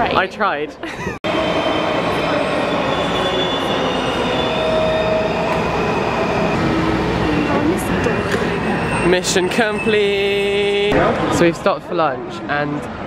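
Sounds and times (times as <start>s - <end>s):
subway train rumble: 1.2s - 11.7s.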